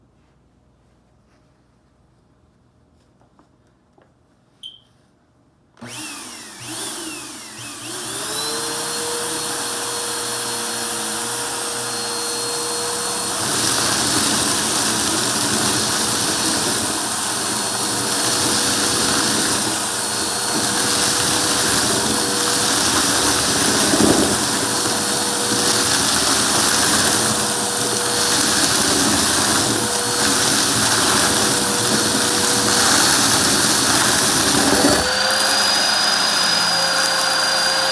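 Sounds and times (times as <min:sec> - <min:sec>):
vacuum cleaner motor whine: 0:05.8 - 0:37.9.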